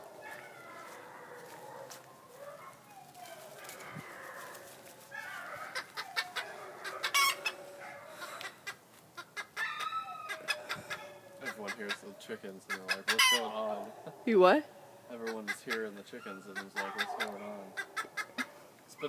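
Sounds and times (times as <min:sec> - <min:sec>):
chickens clucking and squawking: 0:00.0 - 0:19.0.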